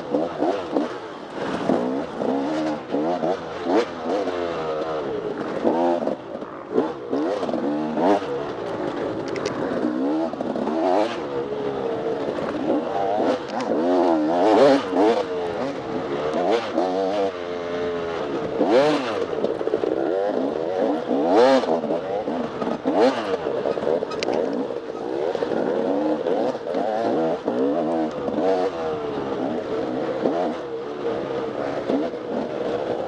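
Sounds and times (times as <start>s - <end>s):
dirt bike engine revving: 0.0s - 33.0s
knocks and clatter from bike: 0.0s - 33.0s.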